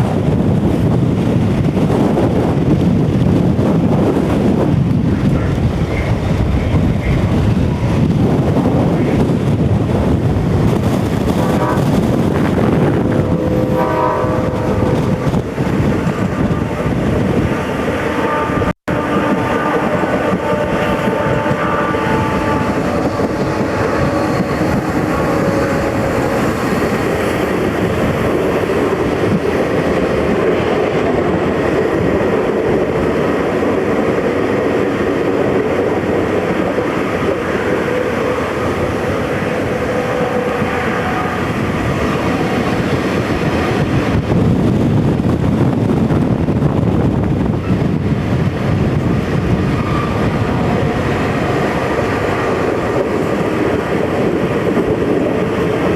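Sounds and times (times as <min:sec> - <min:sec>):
rushing air: 0:00.0 - 0:55.9
train wheels rumbling on rail: 0:00.0 - 0:55.9.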